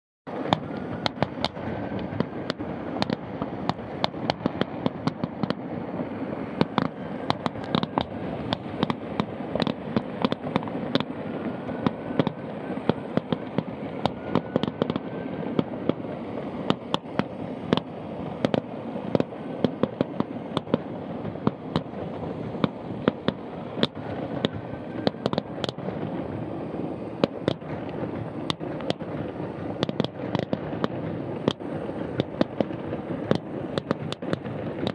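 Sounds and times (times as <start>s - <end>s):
fireworks bangs and pops: 0.3s - 34.9s
fireworks rumble and crackle: 0.3s - 34.9s.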